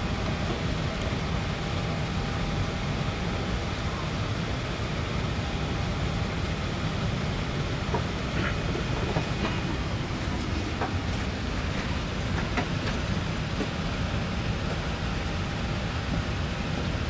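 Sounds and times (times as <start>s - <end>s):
airliner cabin rumble and hiss: 0.0s - 17.0s.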